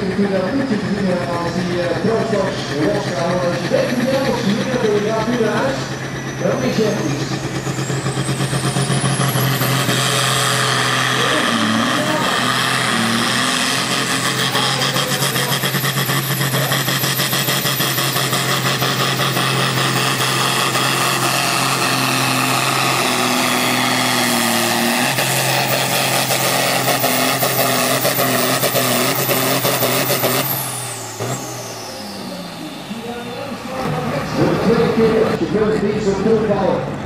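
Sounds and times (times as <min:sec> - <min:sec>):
high whine: 0:00.0 - 0:36.7
tractor diesel engine under load: 0:00.0 - 0:37.0.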